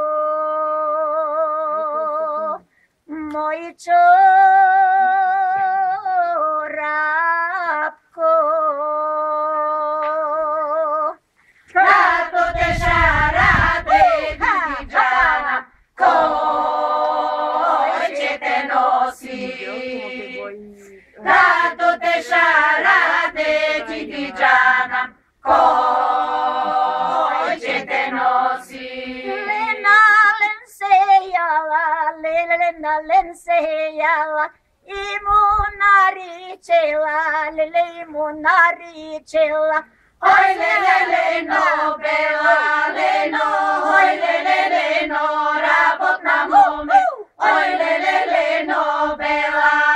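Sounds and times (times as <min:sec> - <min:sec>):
women singing unaccompanied: 0:00.0 - 0:49.9.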